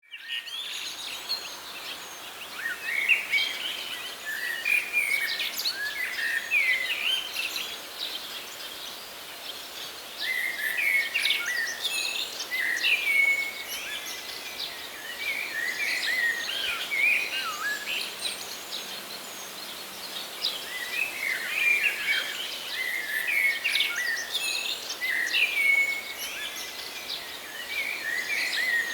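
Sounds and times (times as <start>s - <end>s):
songbirds chirping and trilling: 0.0s - 28.9s.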